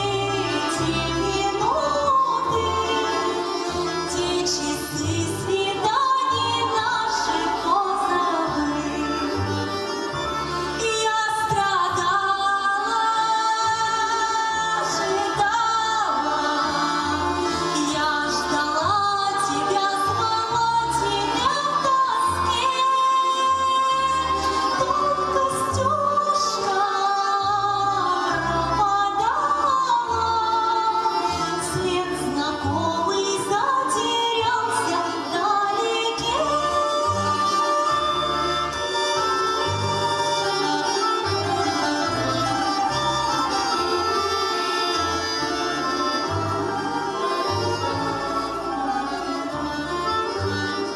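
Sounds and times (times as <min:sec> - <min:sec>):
woman singing: 0:00.0 - 0:09.6, 0:10.7 - 0:48.5
instrumental accompaniment with bass: 0:00.0 - 0:50.9.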